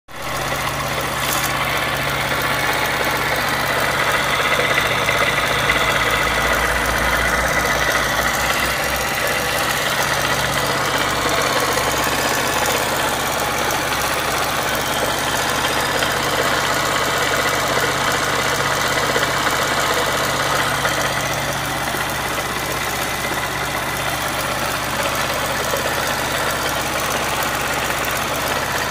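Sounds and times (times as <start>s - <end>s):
motorcycle engine idling: 0.1s - 28.9s
strange mechanical engine noise: 0.1s - 28.9s.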